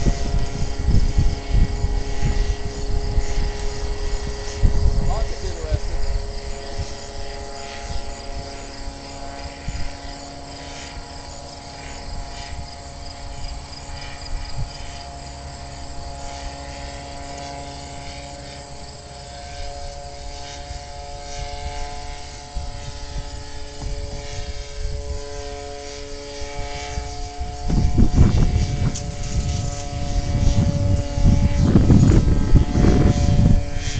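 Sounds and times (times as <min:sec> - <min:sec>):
engine and propeller droning: 0:00.0 - 0:33.9
wind rumble on microphone: 0:00.0 - 0:33.9.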